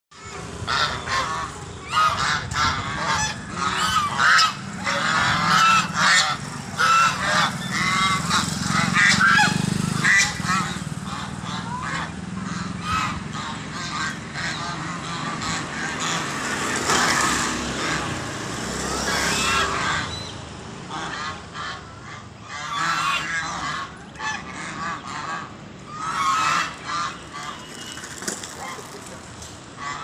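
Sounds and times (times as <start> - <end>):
geese honking: 0.3 - 16.4, 20.9 - 30.0.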